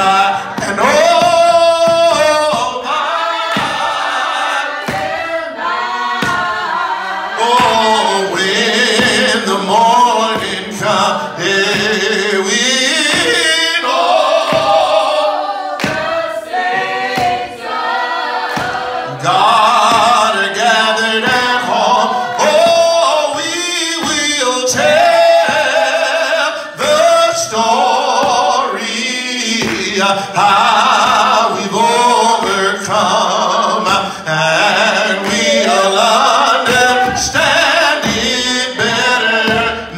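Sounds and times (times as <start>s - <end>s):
man singing gospel into microphone: 0.0s - 5.0s, 7.2s - 17.3s, 18.5s - 39.9s.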